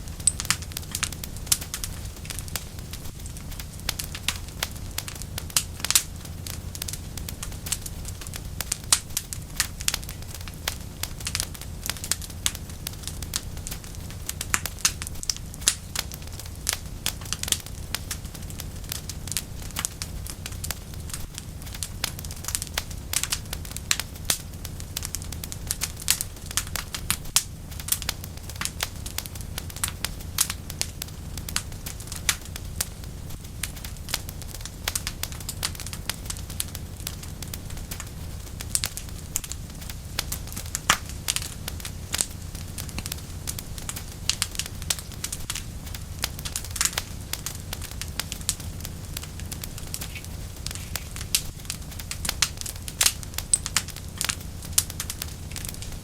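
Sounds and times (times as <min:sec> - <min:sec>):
low rumble of flame: 0:00.0 - 0:56.0
wood fire crackling and popping: 0:00.0 - 0:56.0.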